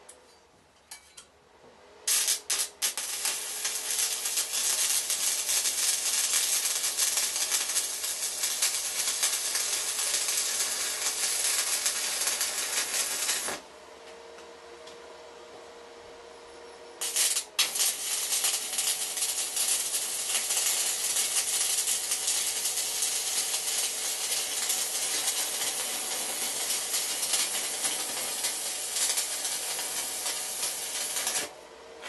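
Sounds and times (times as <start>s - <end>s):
electric arc welding sizzle: 2.1s - 13.6s, 17.0s - 31.6s.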